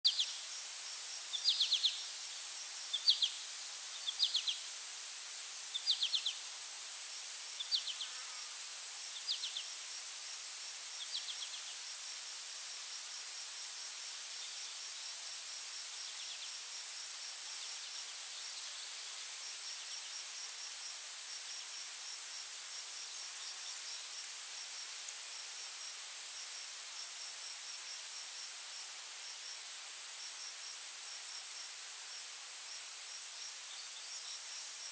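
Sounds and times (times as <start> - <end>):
crickets chirping: 0.1 - 34.9
high drone of insects: 0.1 - 34.9.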